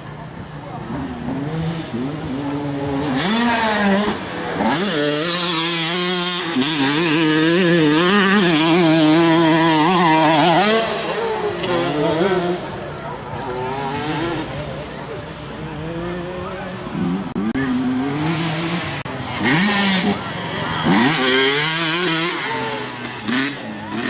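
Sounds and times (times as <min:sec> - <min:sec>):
motocross bike engine revving: 0:00.7 - 0:24.0.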